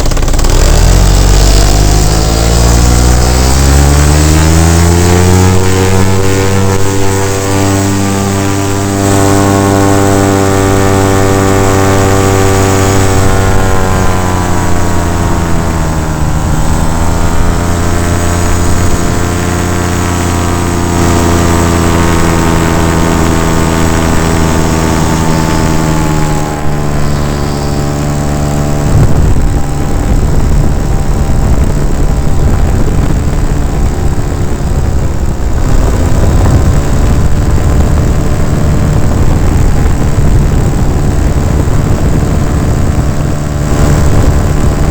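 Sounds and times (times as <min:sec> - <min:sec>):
paramotor engine and propeller: 0:00.0 - 0:44.9.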